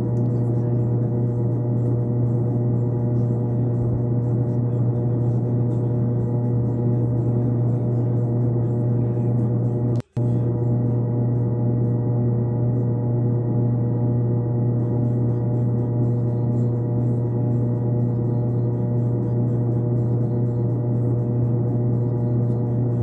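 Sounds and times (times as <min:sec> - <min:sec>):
deep hum with ringing tones: 0:00.0 - 0:23.0.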